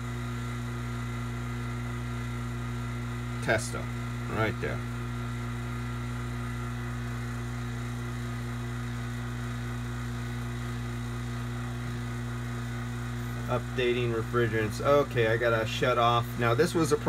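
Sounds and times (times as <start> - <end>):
vacuum pump humming: 0.0 - 17.0.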